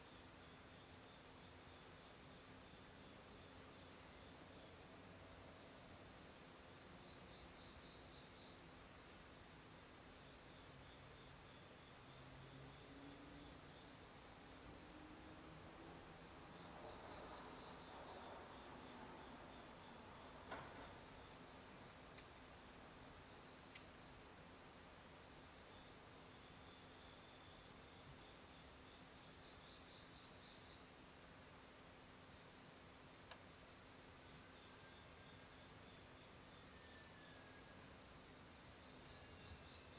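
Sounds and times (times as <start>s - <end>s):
night insects trilling: 0.0s - 39.9s.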